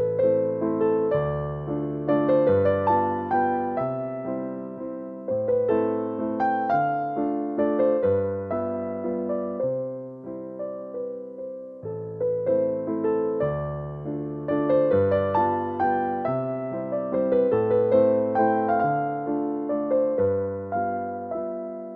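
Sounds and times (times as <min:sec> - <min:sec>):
gentle piano music: 0:00.0 - 0:21.9.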